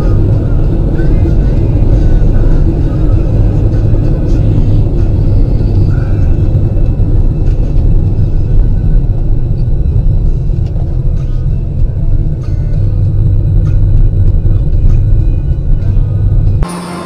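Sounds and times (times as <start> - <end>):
car driving low rumble: 0.0 - 17.0.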